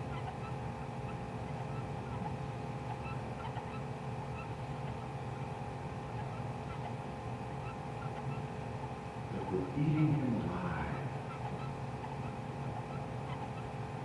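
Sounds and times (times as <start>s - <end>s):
steady hum of fixed tones: 0.0s - 14.0s.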